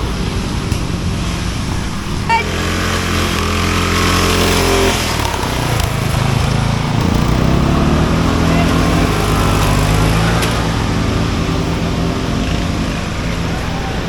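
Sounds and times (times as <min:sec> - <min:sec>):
lawn mower engines revving: 0:00.0 - 0:14.0.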